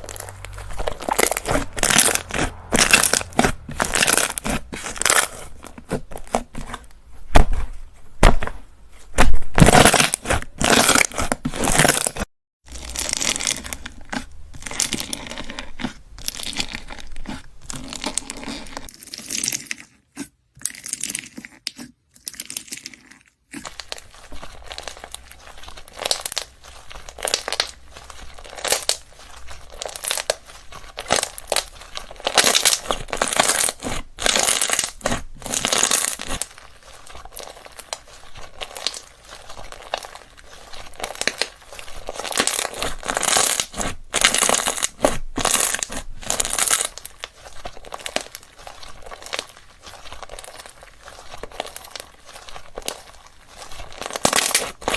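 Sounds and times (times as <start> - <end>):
slime crackling and popping: 0.0 - 7.6, 9.2 - 54.9.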